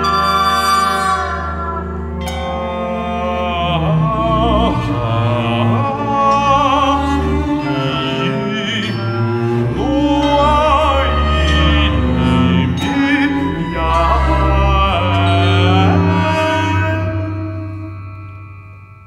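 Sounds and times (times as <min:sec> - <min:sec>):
held high tones: 0:00.0 - 0:18.6
voice singing with wide vibrato: 0:00.0 - 0:18.7.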